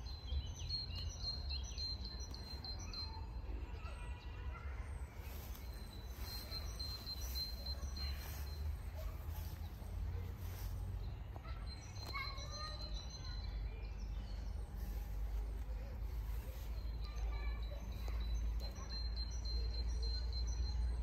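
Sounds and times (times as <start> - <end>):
birds chirping and singing: 0.0 - 21.0.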